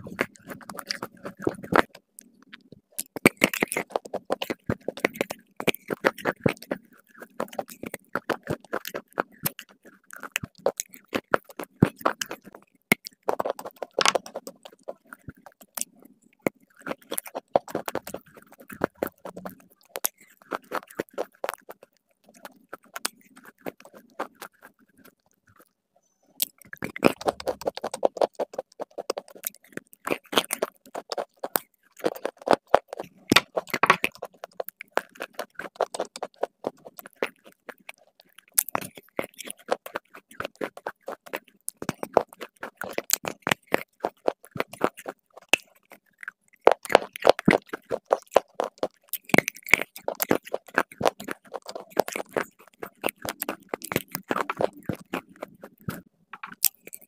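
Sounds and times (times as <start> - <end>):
crunching of hard clay chewing: 0.0 - 25.8, 26.4 - 57.0.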